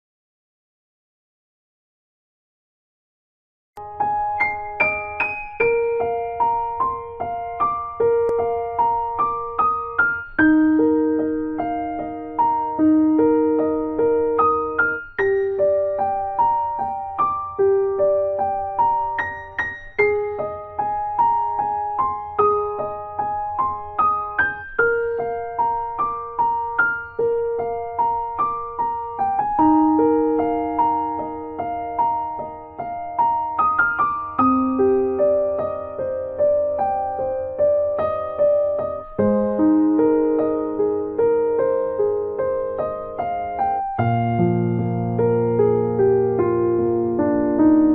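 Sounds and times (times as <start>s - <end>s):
gentle keyboard melody: 3.8s - 47.9s.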